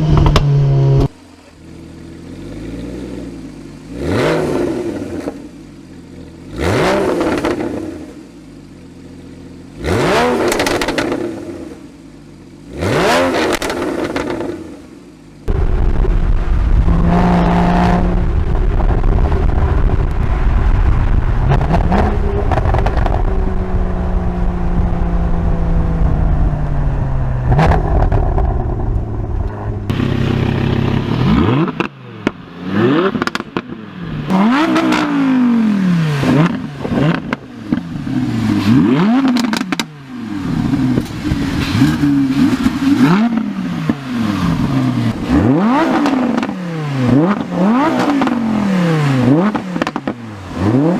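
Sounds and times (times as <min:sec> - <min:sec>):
exhaust pops and crackles: 0:00.0 - 0:14.8, 0:15.4 - 0:32.4, 0:33.0 - 0:35.1, 0:36.3 - 0:37.9, 0:38.7 - 0:40.0, 0:40.6 - 0:48.5, 0:49.2 - 0:50.9
sports car engine: 0:00.0 - 0:50.9
engine revving: 0:02.2 - 0:05.5, 0:06.4 - 0:08.3, 0:09.8 - 0:11.9, 0:12.6 - 0:50.9.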